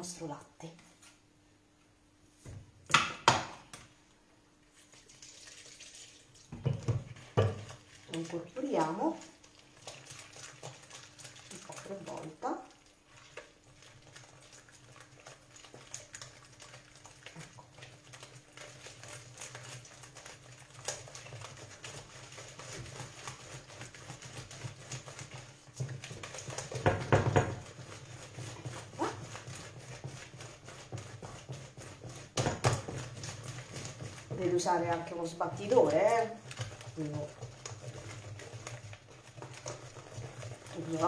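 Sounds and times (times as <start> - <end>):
whisk ticking against bowl: 6.7 - 41.0.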